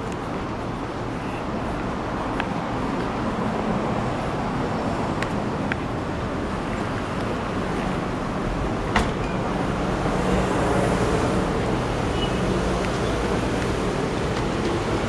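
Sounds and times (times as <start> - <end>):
hum of passing cars: 0.0 - 15.0.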